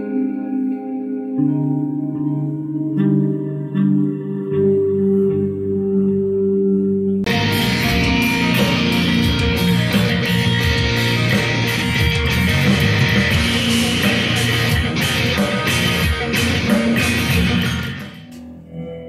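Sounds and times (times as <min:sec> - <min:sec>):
electric bass guitar playing: 0:00.0 - 0:19.0.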